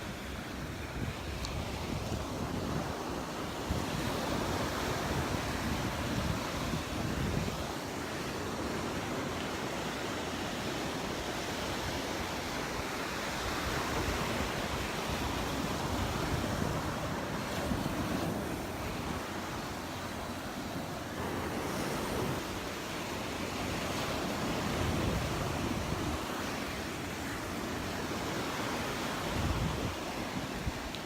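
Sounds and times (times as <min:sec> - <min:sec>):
ocean surf washing on beach: 0:00.0 - 0:31.0
wind rumbling on microphone: 0:00.0 - 0:31.0.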